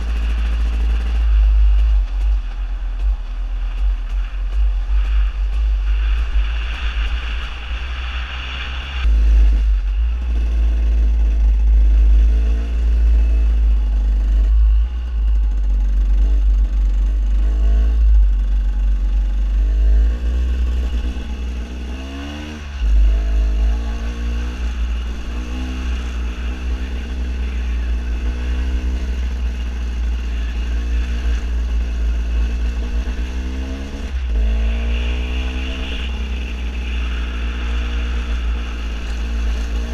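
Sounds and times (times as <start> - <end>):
two-stroke engine revving: 0.0 - 3.9, 9.0 - 39.9
wind rumble on microphone: 0.0 - 39.9.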